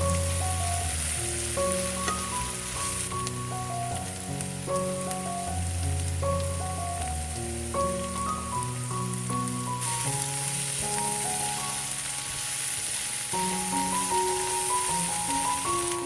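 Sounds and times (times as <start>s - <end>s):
background music with held notes: 0.0s - 16.0s
food frying in oil: 0.0s - 16.0s.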